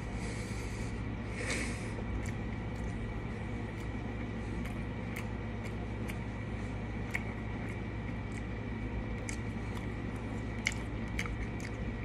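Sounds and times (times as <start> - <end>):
chewing a burger: 0.0 - 12.0
steady low hum: 0.0 - 12.0
lip and tongue clicks: 2.0 - 12.0.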